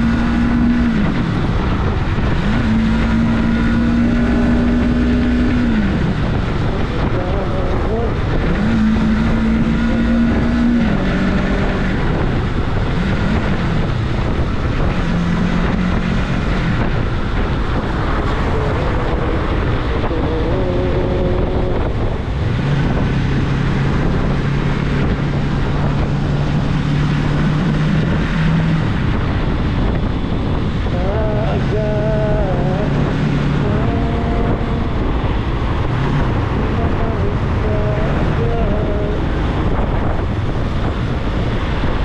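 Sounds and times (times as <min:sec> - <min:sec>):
motorcycle engine revving: 0:00.0 - 0:42.0
wind on microphone: 0:00.0 - 0:42.0.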